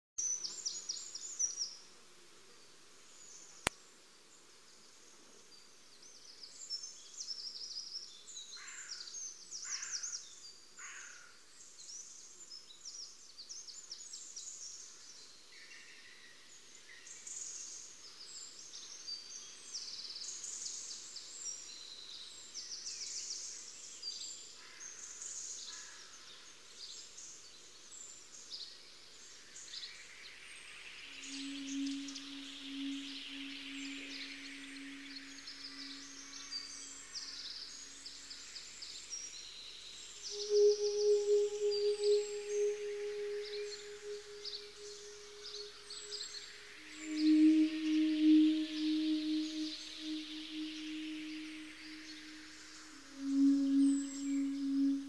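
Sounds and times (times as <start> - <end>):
faint background hiss: 0.2 - 55.0
songbirds chirping: 0.2 - 55.0.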